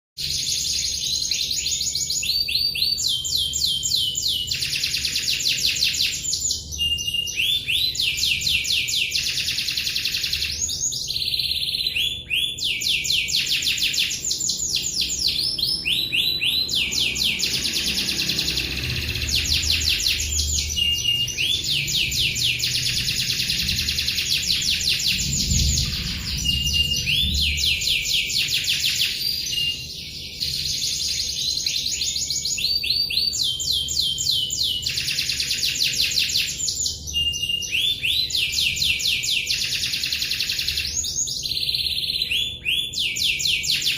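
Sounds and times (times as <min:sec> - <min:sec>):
canary singing rolling trills: 0:00.2 - 0:43.9.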